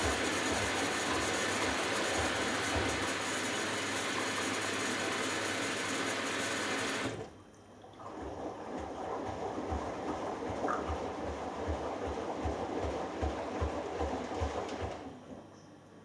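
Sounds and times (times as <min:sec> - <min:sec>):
water sloshing in drum: 0:00.0 - 0:06.6, 0:07.2 - 0:15.3
water rushing into washing machine: 0:00.0 - 0:15.4.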